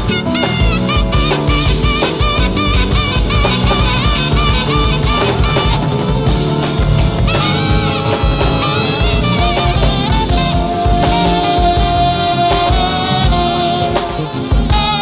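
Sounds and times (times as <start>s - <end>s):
drum kit steady beat: 0.0s - 15.0s
held wavering melody notes: 0.0s - 15.0s.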